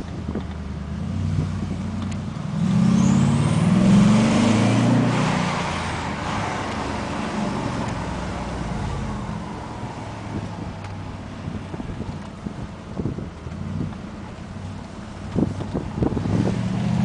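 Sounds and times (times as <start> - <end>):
car engine accelerating hard: 0.2 - 17.0.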